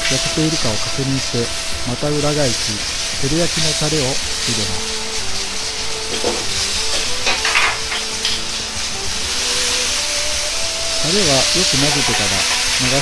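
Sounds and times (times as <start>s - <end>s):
chicken sizzling in a wok: 0.0s - 13.0s
metal spatula scraping wok: 0.0s - 13.0s.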